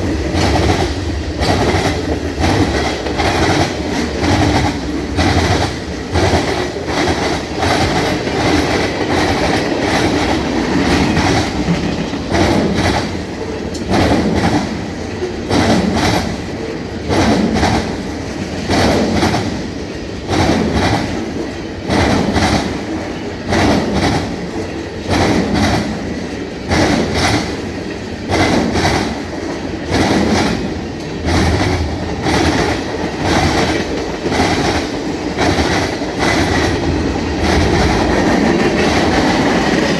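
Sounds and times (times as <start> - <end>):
train rolling rumble: 0.0 - 39.9
train wheels clanking over crossing: 0.0 - 39.9.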